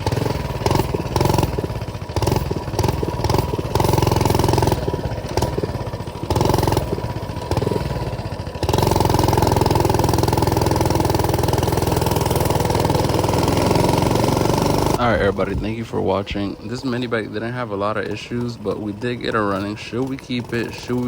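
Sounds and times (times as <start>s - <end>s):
small engine revving: 0.0s - 21.0s.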